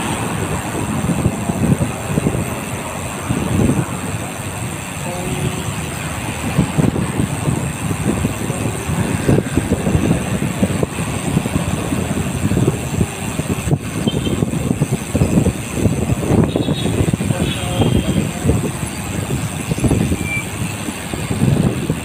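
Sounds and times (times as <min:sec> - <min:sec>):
road traffic: 0:00.0 - 0:22.0
wind buffeting microphone: 0:00.0 - 0:22.0.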